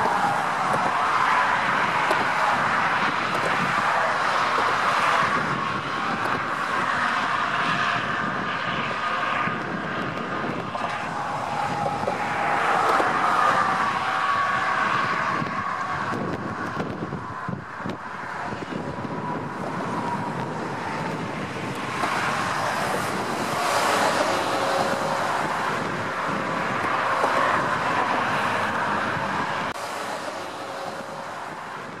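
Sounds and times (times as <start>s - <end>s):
vehicles passing: 0.0s - 32.0s
wind on microphone: 0.0s - 32.0s.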